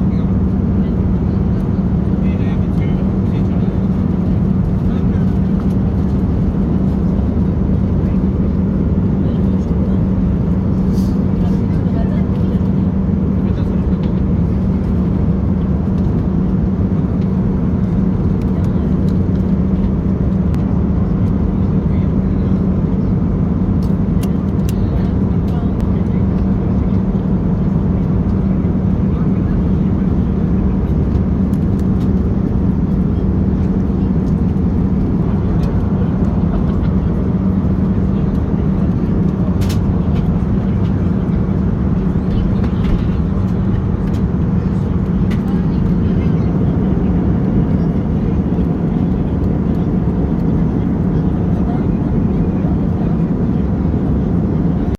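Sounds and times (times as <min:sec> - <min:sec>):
airliner cabin engine and airflow: 0:00.0 - 0:54.9.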